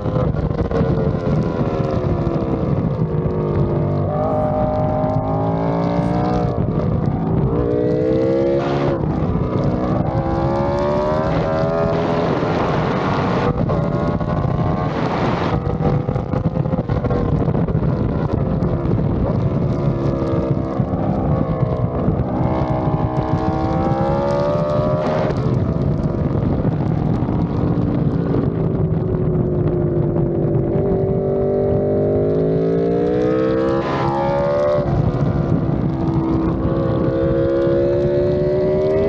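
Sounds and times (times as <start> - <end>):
motorcycle engine revving: 0.0 - 39.0
wind rush on microphone: 0.0 - 39.0.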